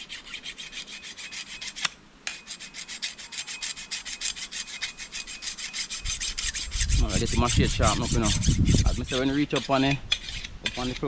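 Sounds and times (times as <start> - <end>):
machete blade being sharpened: 0.0 - 11.0.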